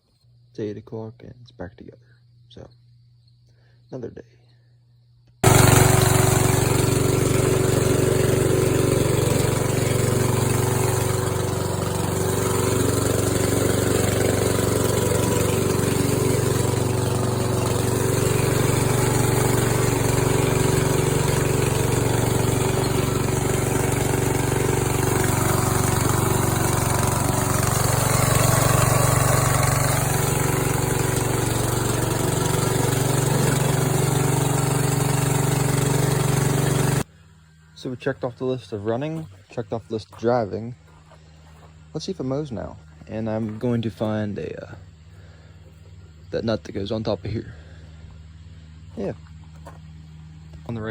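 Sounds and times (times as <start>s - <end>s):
riding mower engine running: 5.4s - 50.9s.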